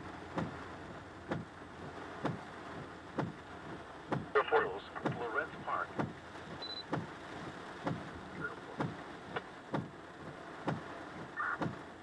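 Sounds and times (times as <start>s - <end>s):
heavy rain on a car: 0.0s - 12.0s.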